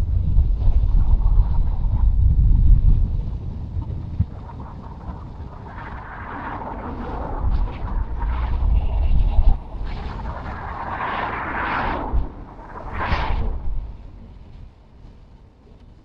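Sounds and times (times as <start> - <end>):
deep low rumble: 0.0 - 16.0
tyre and wind noise: 0.0 - 16.0.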